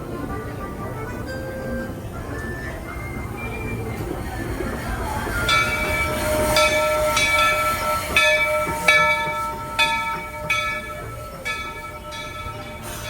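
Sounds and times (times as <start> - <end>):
locomotive bell ringing: 0.0 - 13.0.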